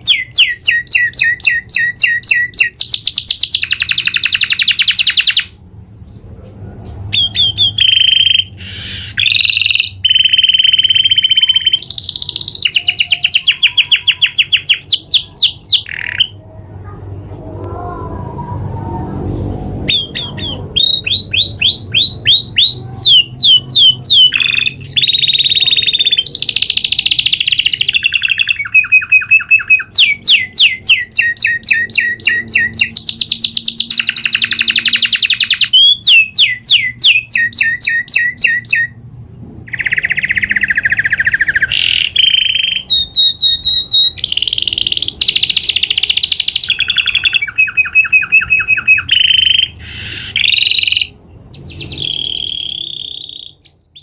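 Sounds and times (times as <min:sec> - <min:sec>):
canary singing trills: 0:00.0 - 0:17.3, 0:19.2 - 0:39.0, 0:39.7 - 0:54.0.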